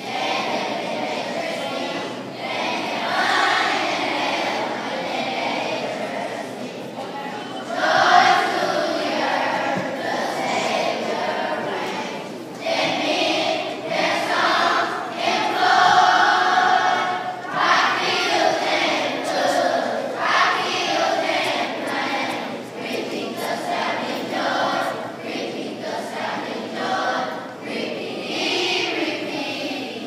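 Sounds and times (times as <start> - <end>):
children's choir singing: 0.0 - 30.0.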